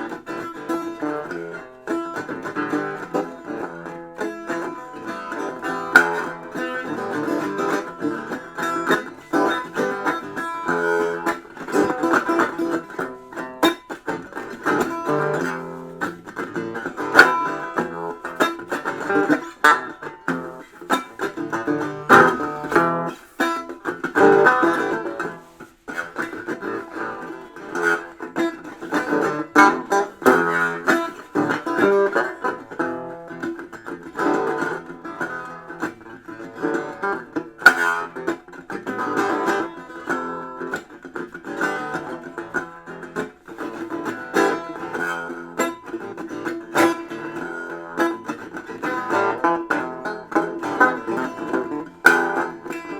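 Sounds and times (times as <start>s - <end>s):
plucked guitar-like instrument: 0.0s - 52.9s.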